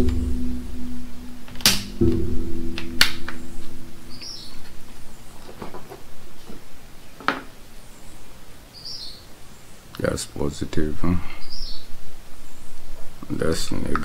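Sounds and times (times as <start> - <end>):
bird chirping: 0.0 - 10.6, 11.3 - 14.0.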